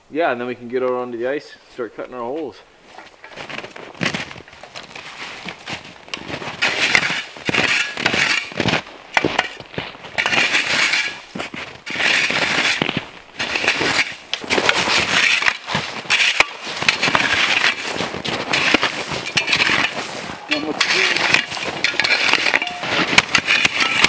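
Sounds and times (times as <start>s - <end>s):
snow shovels scraping snow: 3.0s - 24.0s.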